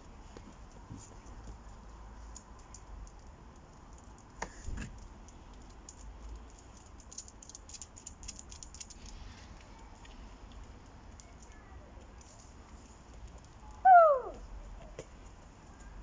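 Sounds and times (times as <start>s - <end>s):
light clicks and rattles: 0.0s - 13.8s.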